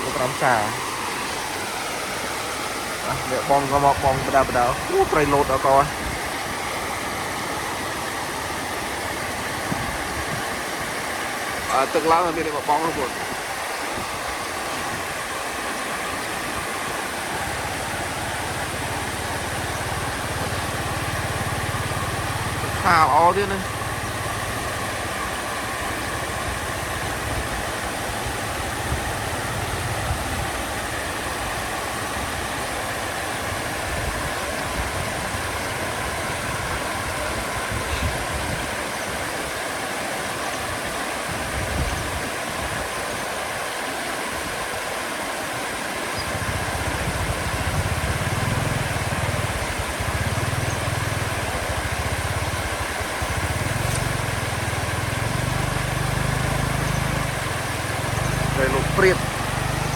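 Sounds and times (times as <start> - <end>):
engine running steadily: 0.0 - 59.9
even hiss: 0.0 - 59.9.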